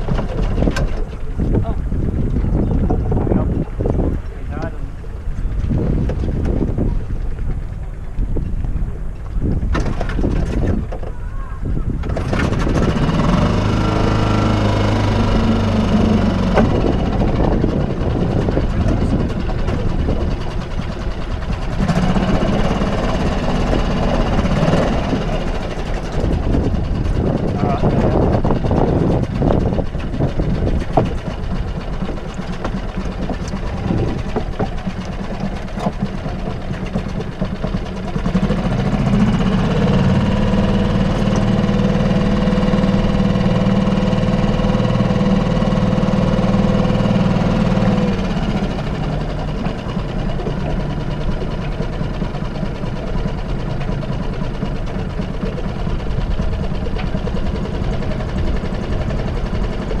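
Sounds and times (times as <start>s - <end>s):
small boat engine running: 0.0s - 60.0s.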